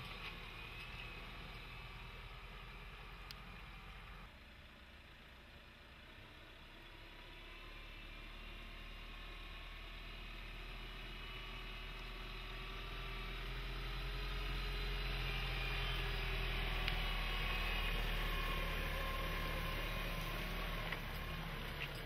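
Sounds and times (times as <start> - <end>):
diesel engine running at low revs: 0.0 - 22.0.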